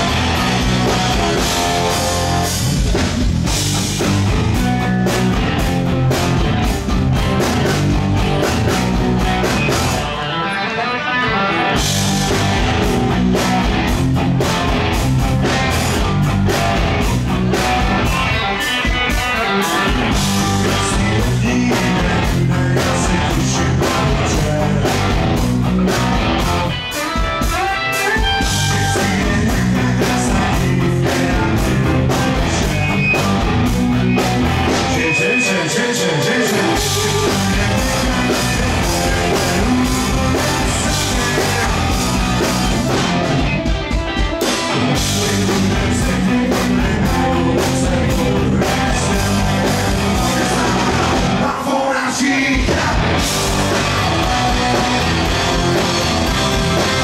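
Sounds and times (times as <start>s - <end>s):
live punk rock band playing: 0.0s - 57.0s.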